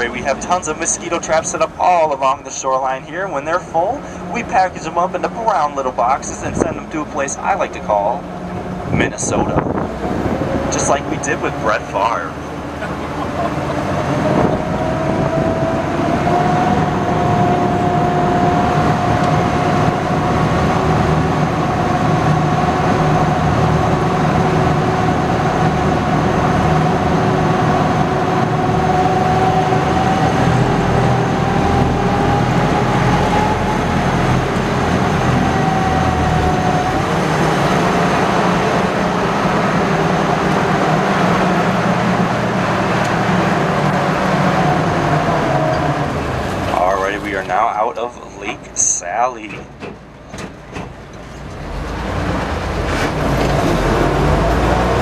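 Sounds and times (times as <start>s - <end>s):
boat engine low rumble: 0.0s - 55.0s
high drivetrain whine: 0.0s - 55.0s.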